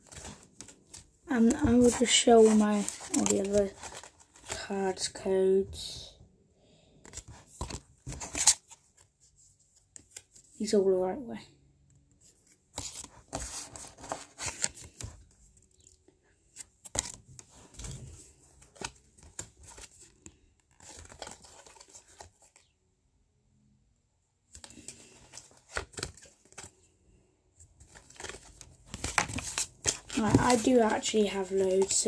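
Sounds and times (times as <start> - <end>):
paper cards rustling and scraping: 0.0 - 5.1, 7.0 - 10.6, 12.2 - 22.7, 24.5 - 26.9, 27.6 - 32.0.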